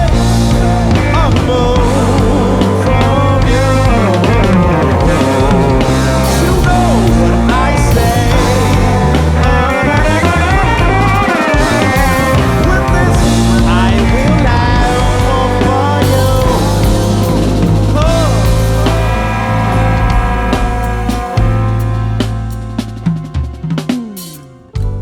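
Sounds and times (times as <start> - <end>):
bass guitar: 0.0 - 25.0
drums: 0.0 - 25.0
electric guitar lead: 0.0 - 25.0.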